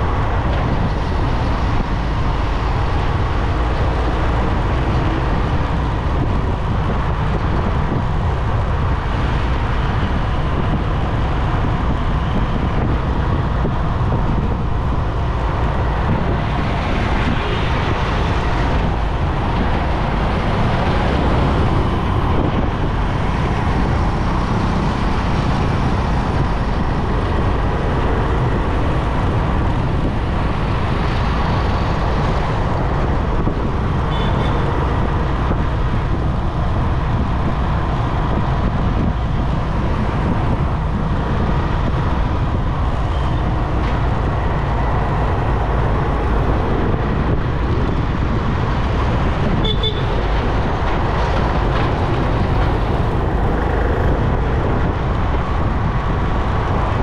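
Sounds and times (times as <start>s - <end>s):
traffic rumble: 0.0s - 57.0s
wind rushing over microphone: 0.0s - 57.0s.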